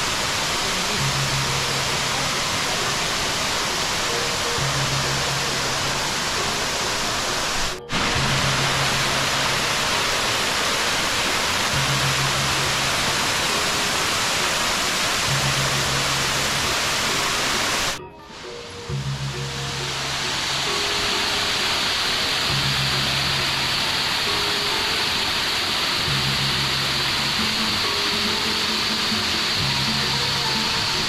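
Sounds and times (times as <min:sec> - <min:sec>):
music with low held notes: 0:00.0 - 0:31.0
waterfall rushing: 0:00.0 - 0:31.0.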